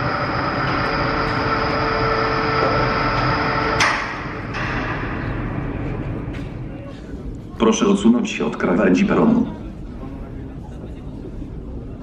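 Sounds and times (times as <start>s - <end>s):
steady hum with held tones: 0.0s - 12.0s
train approaching in tunnel: 0.0s - 12.0s.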